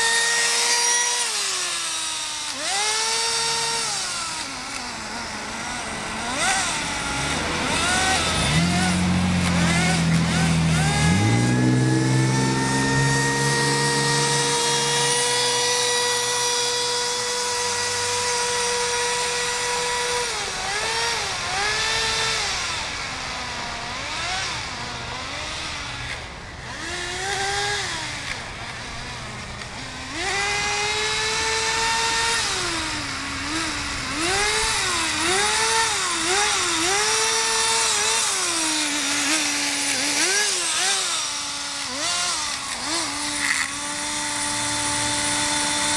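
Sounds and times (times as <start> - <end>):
model engine revving: 0.0 - 45.9.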